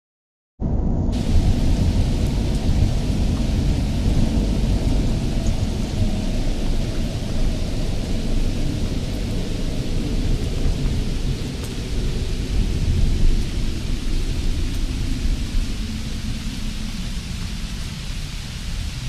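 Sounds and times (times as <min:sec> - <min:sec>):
deep rumble: 0:00.6 - 0:19.0
steady hiss: 0:01.1 - 0:19.0.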